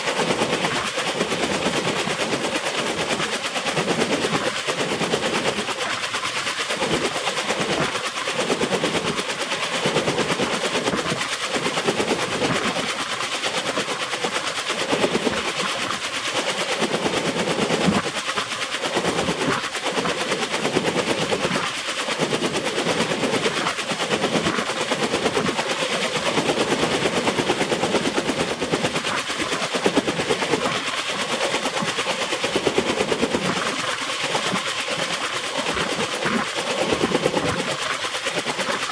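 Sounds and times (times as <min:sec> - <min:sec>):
helicopter rotors chopping: 0:00.0 - 0:38.9.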